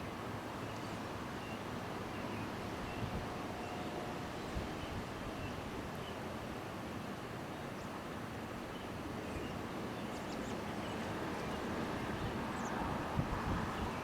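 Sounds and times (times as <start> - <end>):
wind blowing across microphone: 0.7 - 14.0.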